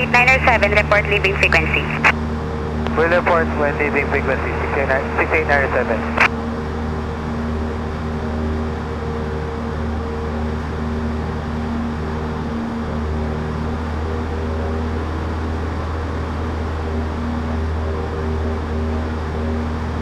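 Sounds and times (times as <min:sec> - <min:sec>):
airplane engine and propeller droning: 0:00.0 - 0:20.0.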